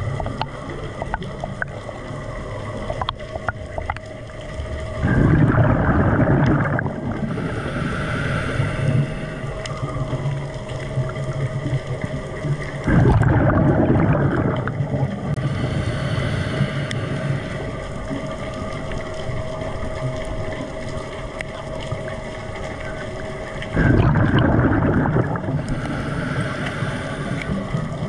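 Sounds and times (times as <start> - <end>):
rush of water underwater: 0.0 - 28.0
steady low hum: 0.0 - 28.0.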